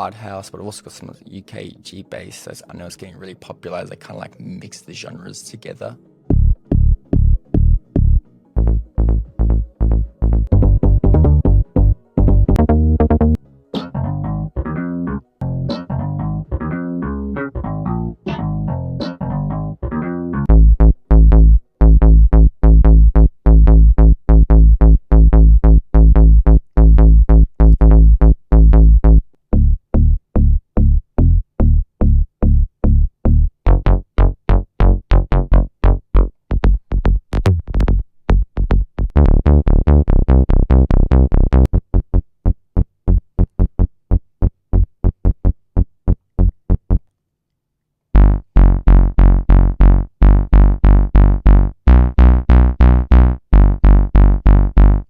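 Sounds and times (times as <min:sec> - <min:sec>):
pulsing synth bass notes: 0:06.3 - 0:47.0, 0:48.2 - 0:55.0.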